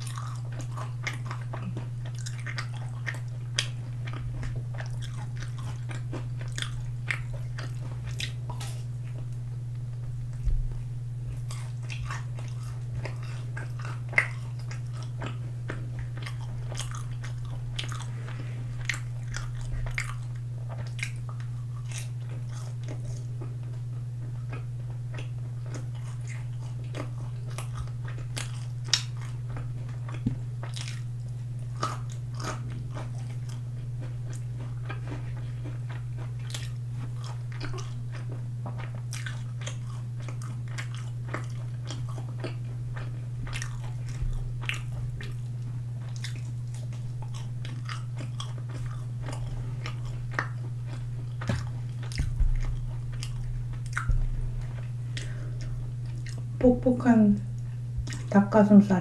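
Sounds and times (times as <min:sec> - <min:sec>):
chewing crunchy food: 0:00.0 - 0:58.5
low hum: 0:00.0 - 0:59.0.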